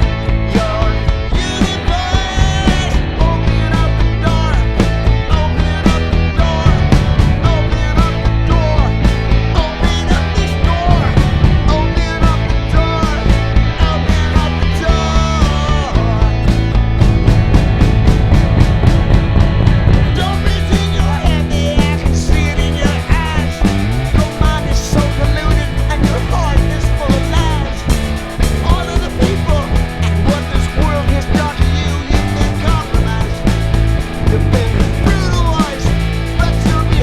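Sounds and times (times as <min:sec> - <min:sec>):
bass guitar: 0:00.0 - 0:37.0
drums: 0:00.0 - 0:37.0
electric guitar lead with bending notes: 0:00.0 - 0:37.0.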